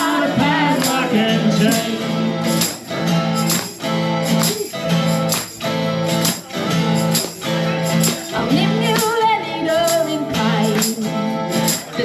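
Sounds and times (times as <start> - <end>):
acoustic guitar strumming chords: 0.0 - 12.0
tambourine keeping time: 0.0 - 12.0.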